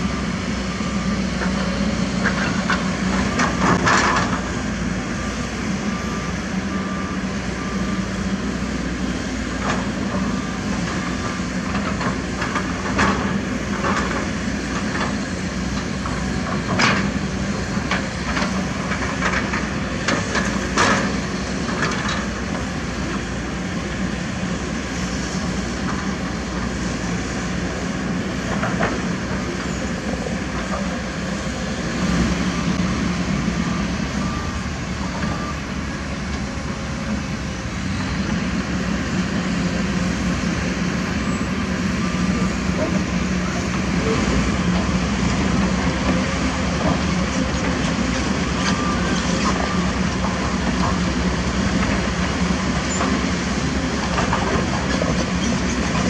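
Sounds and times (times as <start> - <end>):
excavator diesel engines: 0.0 - 56.0.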